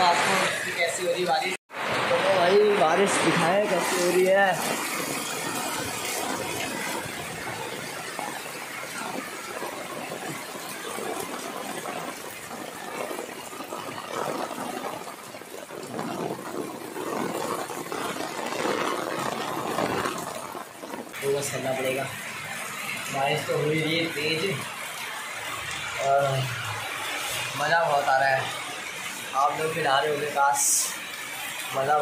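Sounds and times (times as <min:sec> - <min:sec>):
heavy rain on concrete: 0:00.0 - 0:32.0.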